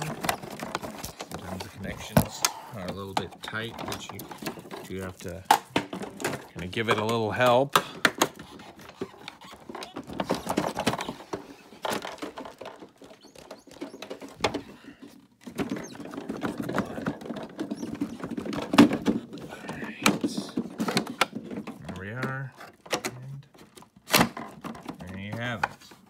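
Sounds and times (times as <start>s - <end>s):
plastic clicks and scraping: 0.0s - 26.0s.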